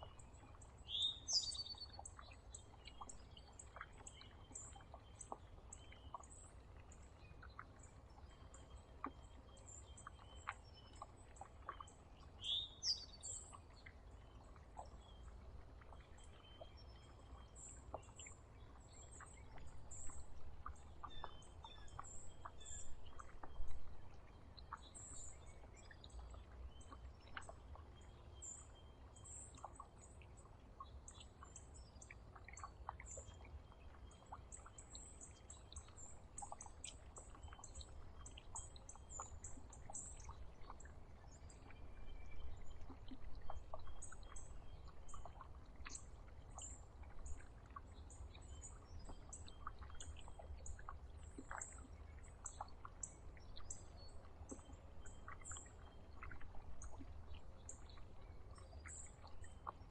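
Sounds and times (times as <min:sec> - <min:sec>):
songbirds chipping: 0:00.0 - 0:59.9.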